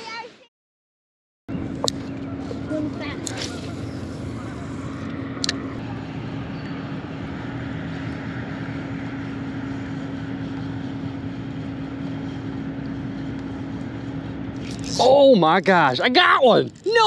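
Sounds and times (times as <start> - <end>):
mechanical drone: 1.5 - 17.0
wide noisy background: 1.5 - 17.0.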